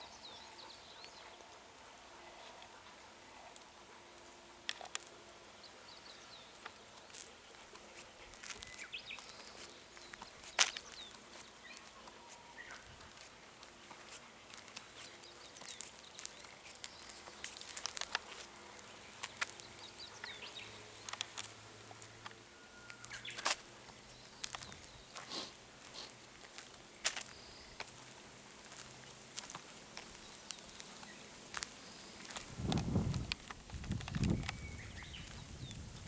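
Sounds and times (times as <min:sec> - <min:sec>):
footsteps crunching outdoors: 0:04.6 - 0:36.0.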